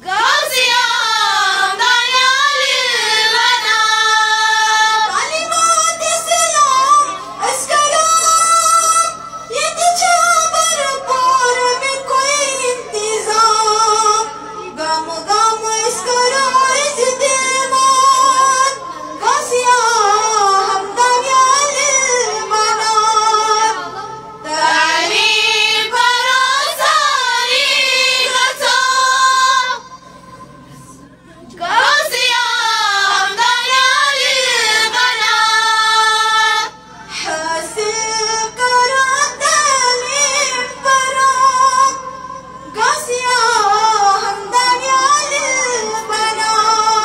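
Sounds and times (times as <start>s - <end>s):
woman singing slow melody: 0.0s - 29.8s, 30.8s - 47.0s.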